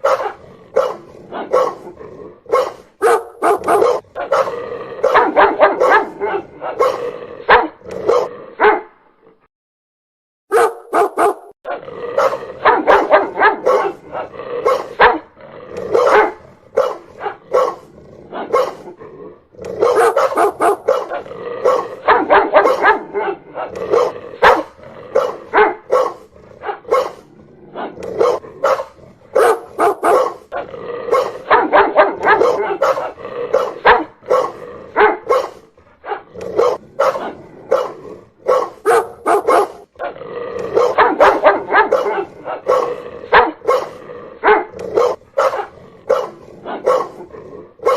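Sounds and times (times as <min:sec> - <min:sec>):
dog barking: 0:00.0 - 0:08.9, 0:10.5 - 0:19.0, 0:19.7 - 0:47.9.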